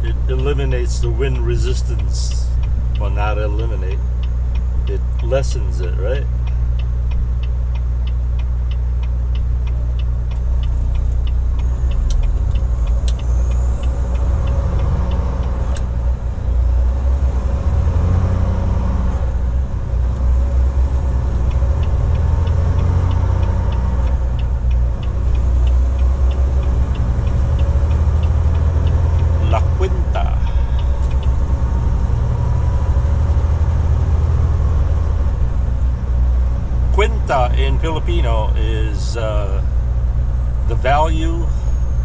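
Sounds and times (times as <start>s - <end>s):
truck diesel engine accelerating: 0.0s - 42.0s
turn signal ticking: 0.0s - 42.0s.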